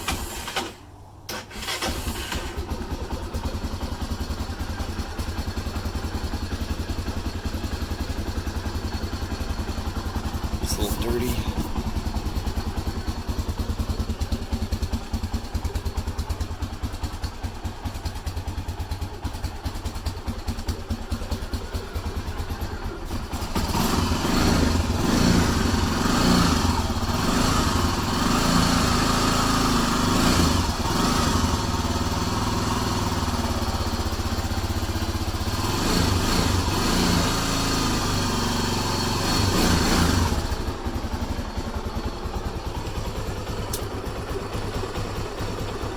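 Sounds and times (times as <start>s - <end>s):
atv engine idling and revving: 0.0s - 45.9s.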